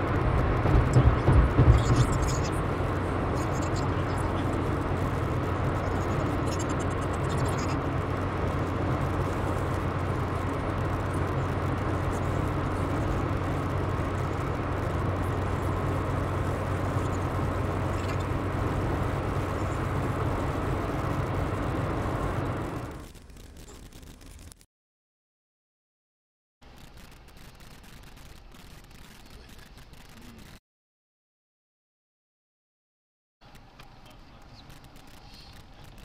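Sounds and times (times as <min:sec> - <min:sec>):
car engine and tyre noise: 0:00.0 - 0:24.6, 0:26.6 - 0:30.6, 0:33.4 - 0:36.0.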